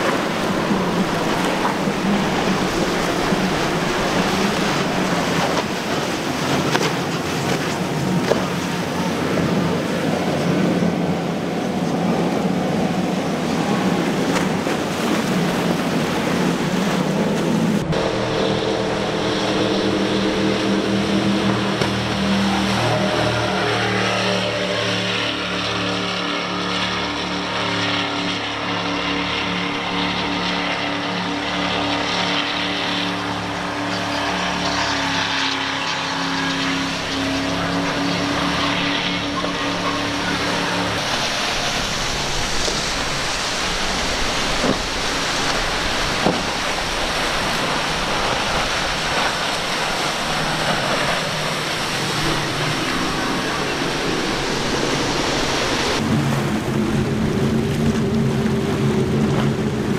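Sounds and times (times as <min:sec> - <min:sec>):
boat wake hissing: 0:00.0 - 0:59.9
powerboat engines at speed: 0:00.0 - 0:59.9
water spray and wind: 0:00.0 - 0:59.9.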